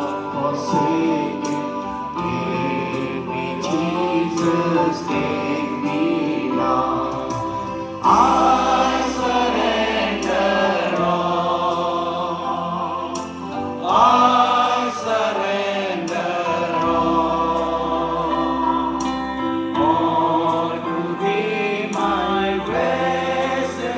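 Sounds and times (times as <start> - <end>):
choir singing a hymn: 0.0 - 23.9
sustained accompanying chords: 0.0 - 23.9.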